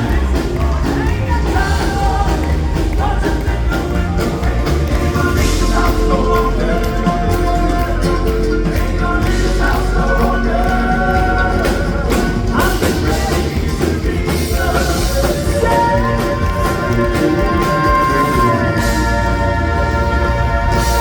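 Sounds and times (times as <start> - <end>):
bass: 0.0 - 21.0
drums: 0.0 - 21.0
vocal quartet singing gospel: 0.0 - 21.0.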